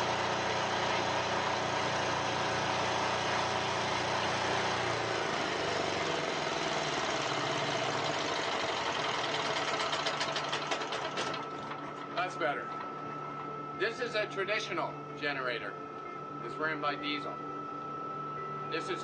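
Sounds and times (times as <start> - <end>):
diesel generator engine running: 0.0 - 19.0.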